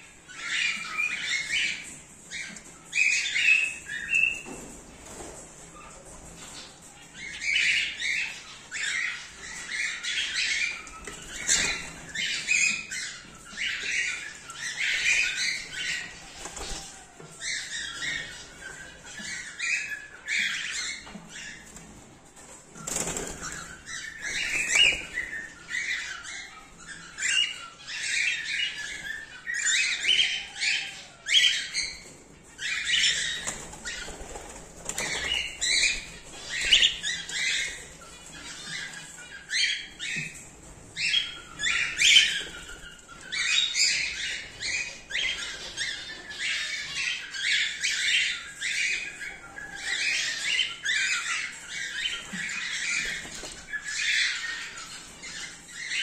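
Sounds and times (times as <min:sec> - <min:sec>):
cockatiels chirping: 0:00.2 - 0:05.2, 0:05.8 - 0:21.8, 0:22.8 - 0:56.0.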